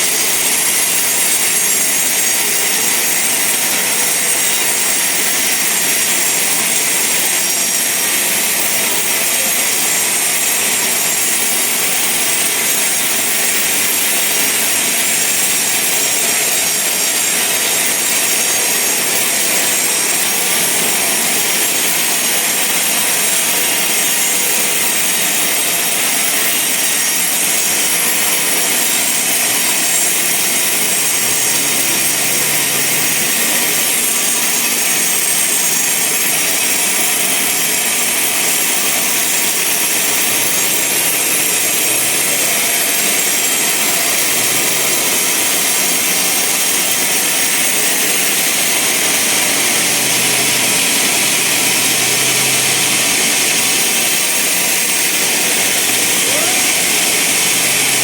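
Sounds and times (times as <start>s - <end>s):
sawmill machine running: 0.0s - 58.0s.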